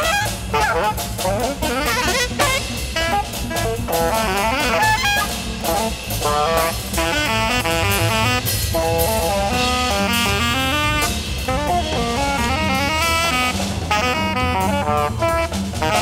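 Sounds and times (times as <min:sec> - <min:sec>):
alto saxophone playing runs: 0:00.0 - 0:16.0
double bass: 0:00.0 - 0:16.0
drum kit: 0:00.0 - 0:16.0.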